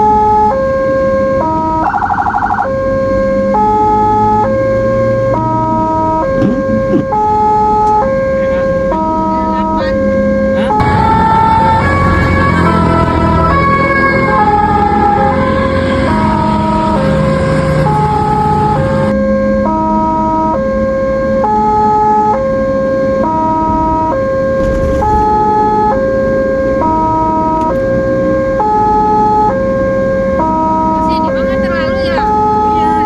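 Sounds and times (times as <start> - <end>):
ambulance two-tone siren: 0.0 - 33.0
vehicle road and engine noise: 0.0 - 33.0.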